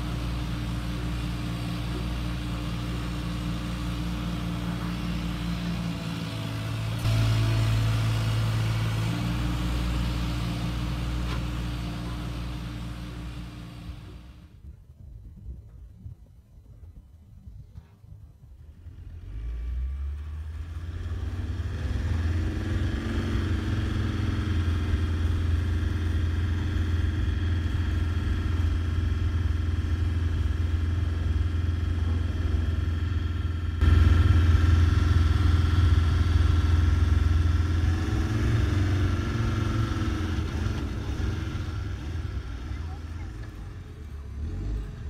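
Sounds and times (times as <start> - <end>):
low engine running: 0.0 - 14.7, 18.6 - 45.0.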